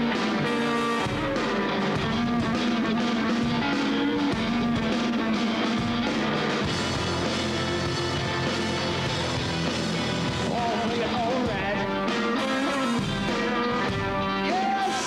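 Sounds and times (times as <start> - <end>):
drum kit playing: 0.0 - 15.0
electric guitars playing: 0.0 - 15.0.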